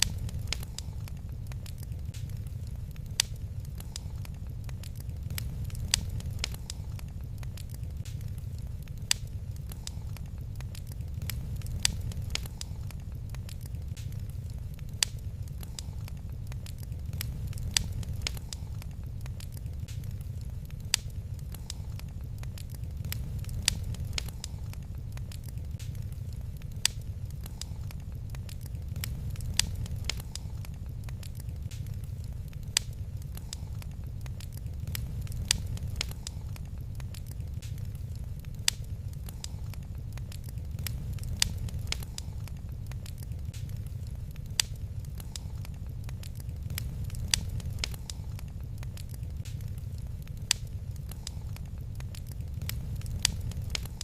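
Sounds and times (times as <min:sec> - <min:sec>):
low rumble: 0:00.0 - 0:54.0
wood fire crackling and popping: 0:00.0 - 0:54.0.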